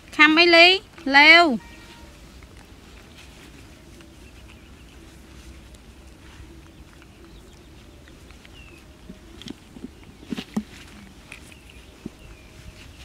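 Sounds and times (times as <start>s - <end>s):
rustling and handling noises: 0.0s - 13.0s.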